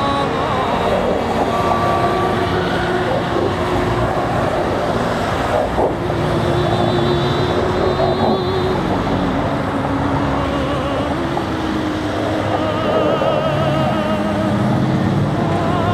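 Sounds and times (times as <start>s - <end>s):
long steady tones: 0.0s - 15.9s
vehicles driving past: 0.0s - 15.9s.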